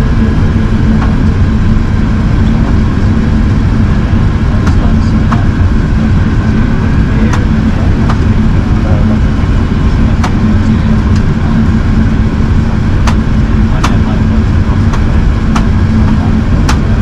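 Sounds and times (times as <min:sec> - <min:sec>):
airplane cabin engine roar: 0:00.0 - 0:17.0
droning hum: 0:00.0 - 0:17.0.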